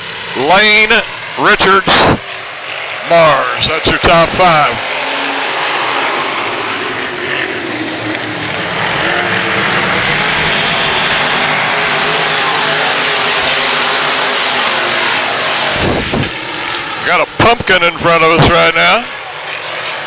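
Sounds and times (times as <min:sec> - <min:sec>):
race car engines at full throttle: 0:00.0 - 0:20.0.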